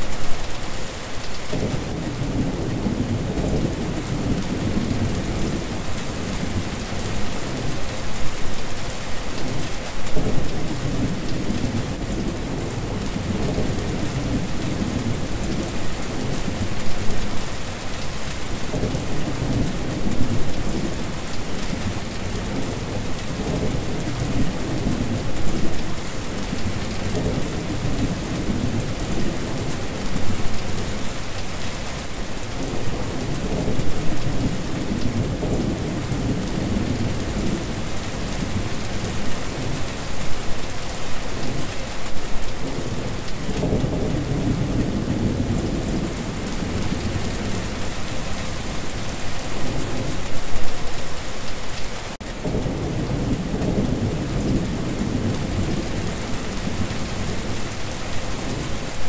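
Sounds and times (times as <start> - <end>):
rain splashing onto water: 0.0 - 59.0.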